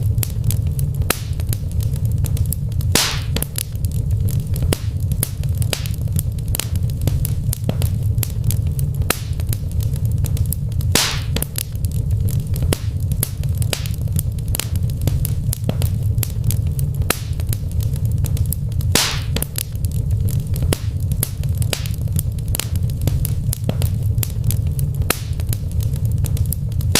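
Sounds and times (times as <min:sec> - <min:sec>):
fire hissing: 0:00.0 - 0:26.9
wood fire crackling and popping: 0:00.0 - 0:26.9.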